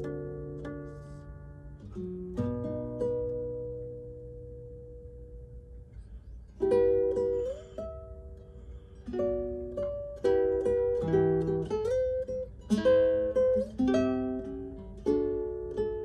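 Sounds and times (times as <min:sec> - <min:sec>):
solo guitar melody: 0:00.0 - 0:16.0.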